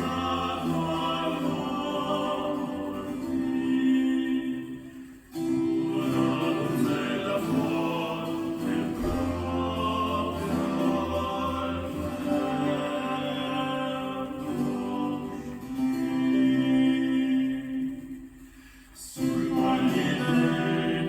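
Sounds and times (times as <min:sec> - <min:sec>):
music with singing over speakers: 0:00.0 - 0:21.0.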